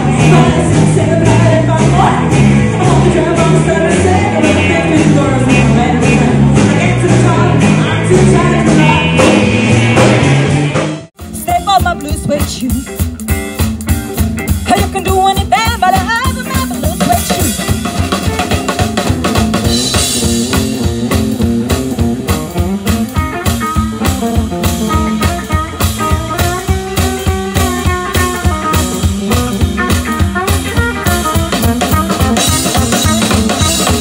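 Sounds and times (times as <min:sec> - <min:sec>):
drum kit beat: 0:00.0 - 0:34.0
electric bass: 0:00.0 - 0:34.0
electric guitar: 0:00.0 - 0:34.0.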